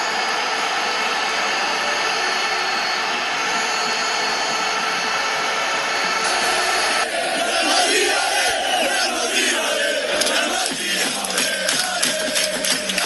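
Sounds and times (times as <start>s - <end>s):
stadium crowd noise: 0.0s - 13.0s.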